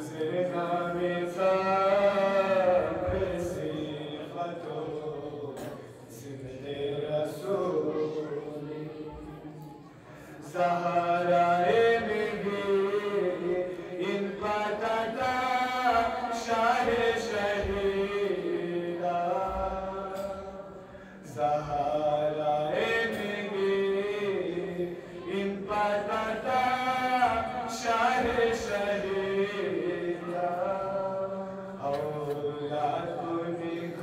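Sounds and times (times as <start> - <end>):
man chanting into a microphone: 0.0 - 9.8, 10.4 - 34.0.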